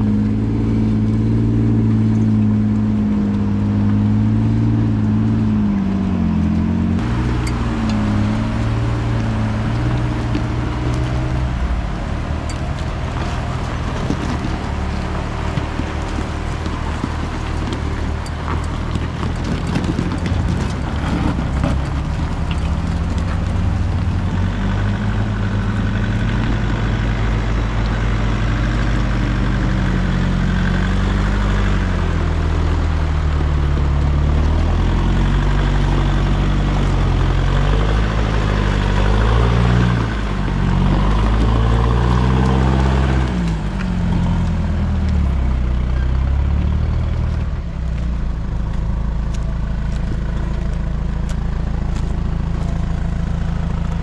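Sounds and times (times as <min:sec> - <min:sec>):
vehicle engine labouring: 0:00.0 - 0:54.0.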